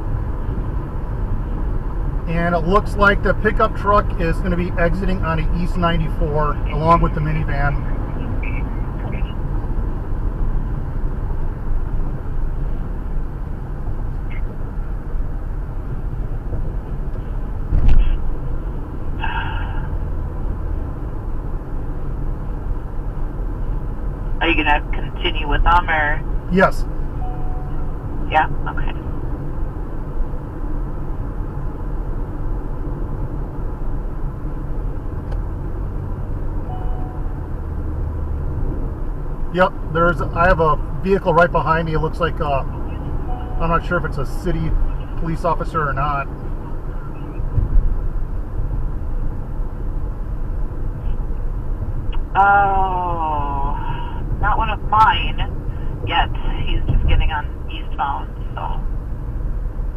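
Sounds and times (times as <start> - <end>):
car engine rumble: 0.0 - 59.9.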